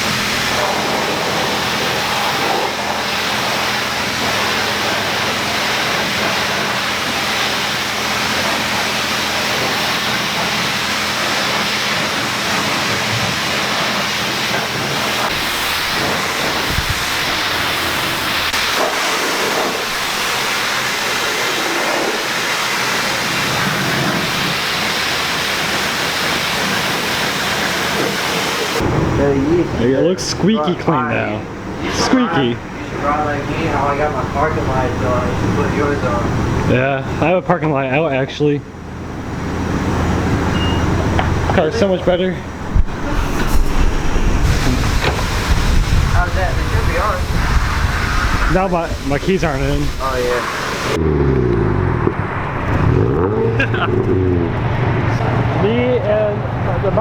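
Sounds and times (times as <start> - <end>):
car wash spray hissing: 0.0 - 53.9.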